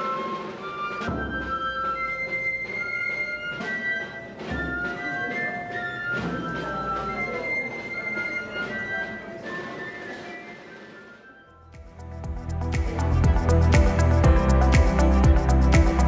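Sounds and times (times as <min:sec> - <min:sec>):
drum strokes: 0:00.0 - 0:08.8, 0:11.8 - 0:16.0
flute melody: 0:00.0 - 0:16.0.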